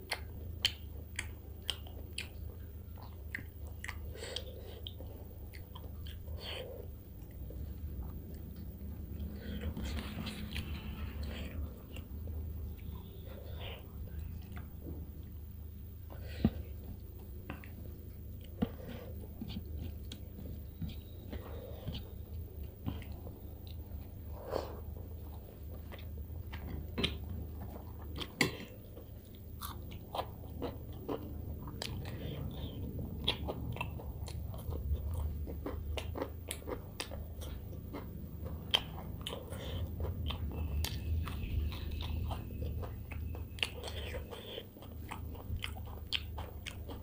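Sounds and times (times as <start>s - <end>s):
person chewing with mouth clicks: 0.0s - 47.0s
steady low hum: 0.0s - 47.0s.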